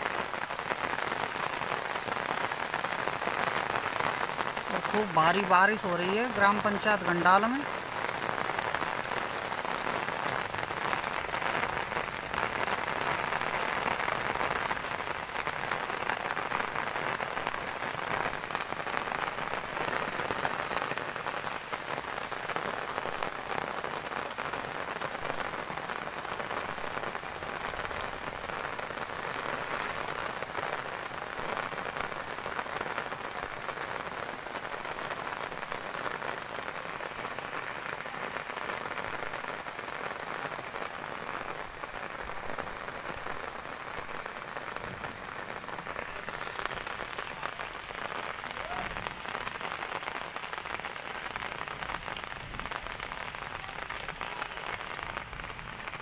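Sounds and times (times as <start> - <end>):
heavy rain on metal roof: 0.0 - 56.0.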